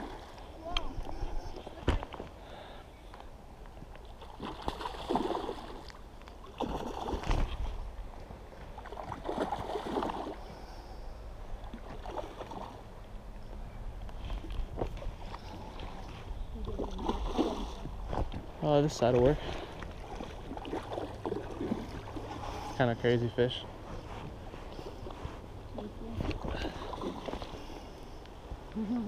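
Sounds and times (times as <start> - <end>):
rumble of moving water: 0.0 - 29.0.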